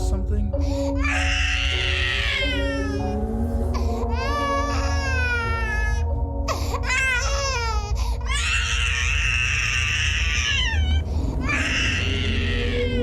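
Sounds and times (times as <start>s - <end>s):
baby crying and screaming: 0.7s - 13.0s.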